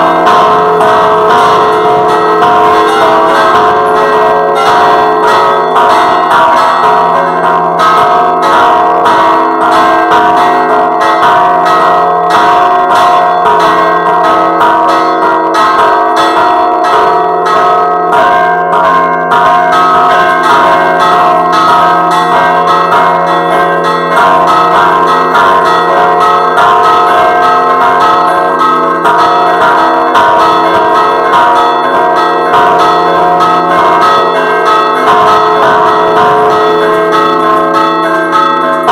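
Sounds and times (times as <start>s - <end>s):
church bells ringing rapidly: 0.0s - 38.9s.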